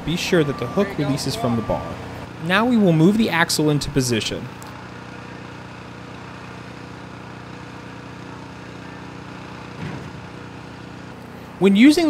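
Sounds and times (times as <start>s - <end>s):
forklift engine running: 0.0s - 12.0s.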